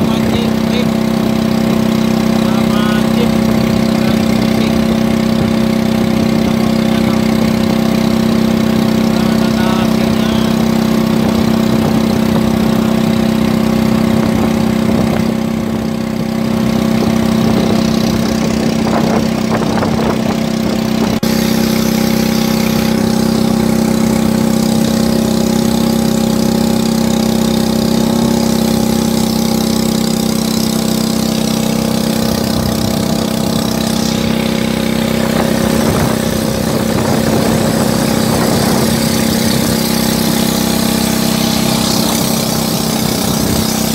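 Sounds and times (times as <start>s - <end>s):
small petrol engine running: 0.0s - 43.9s
water hissing along hull: 0.0s - 43.9s.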